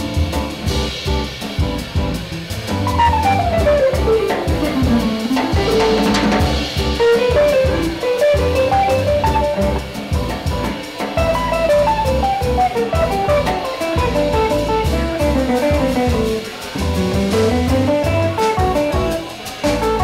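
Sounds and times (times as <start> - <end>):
jazz band playing: 0.0 - 20.0.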